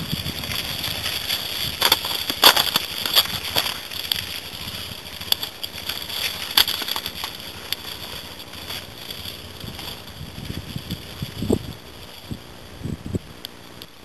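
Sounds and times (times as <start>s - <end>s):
distant dirt bike engine drone: 0.0s - 14.0s.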